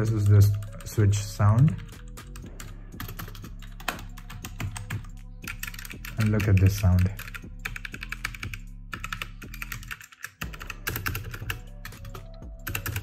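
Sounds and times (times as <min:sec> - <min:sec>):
mechanical keyboard typing: 0:01.6 - 0:13.0.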